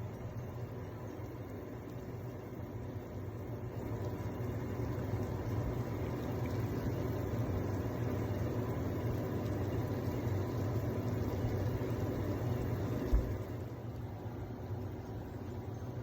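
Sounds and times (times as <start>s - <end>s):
pot boiling and bubbling: 0.0s - 16.0s.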